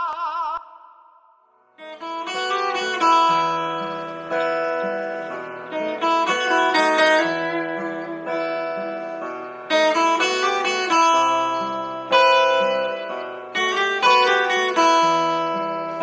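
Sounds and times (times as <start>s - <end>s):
plucked string chords: 1.8s - 16.0s.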